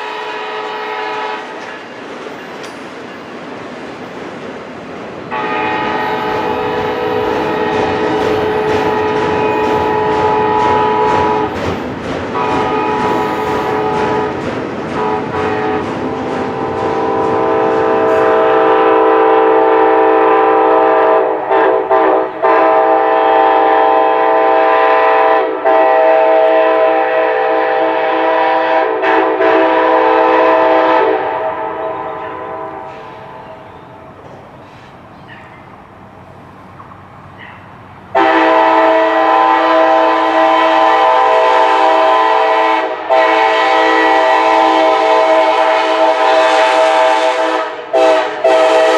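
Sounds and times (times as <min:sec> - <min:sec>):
locomotive air horn blasts: 0:00.0 - 0:01.6, 0:05.3 - 0:11.6, 0:12.4 - 0:14.4, 0:15.0 - 0:33.6, 0:38.2 - 0:48.9
moving train rumble and clatter: 0:00.0 - 0:48.9.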